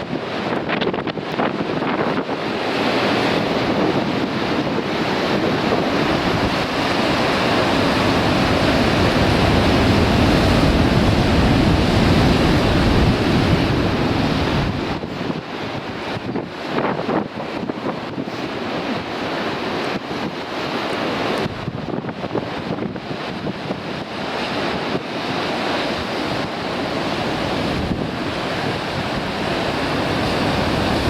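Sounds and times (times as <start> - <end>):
surf crashing on rocky shore: 0.0 - 31.0
wind buffeting microphone: 0.0 - 31.0.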